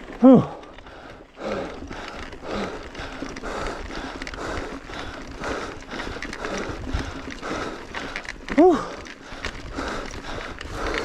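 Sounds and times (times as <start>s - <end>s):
person panting: 0.1s - 11.0s.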